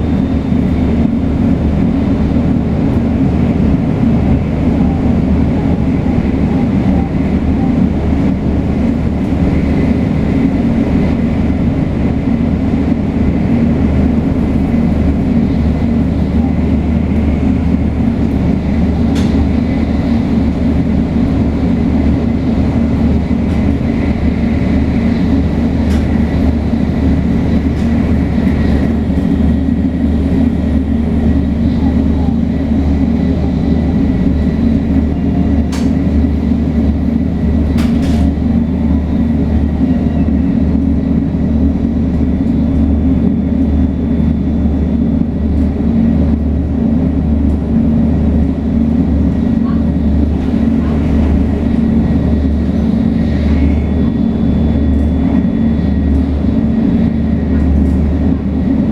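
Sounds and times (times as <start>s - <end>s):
train rumbling under way: 0.0s - 58.9s.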